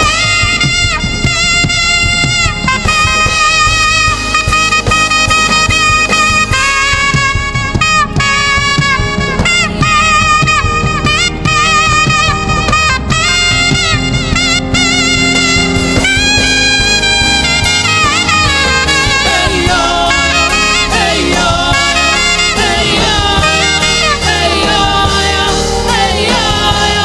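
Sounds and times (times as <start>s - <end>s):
drums: 0.0s - 27.0s
keyboard: 0.0s - 27.0s
saxophone melody: 0.0s - 27.0s.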